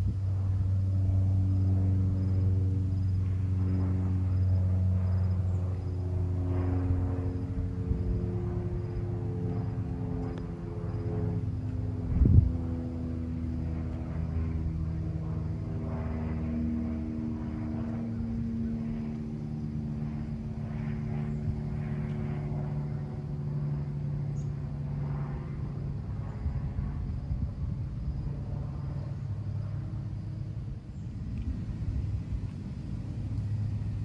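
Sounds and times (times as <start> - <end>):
jet airliner engine drone: 0.0 - 34.0.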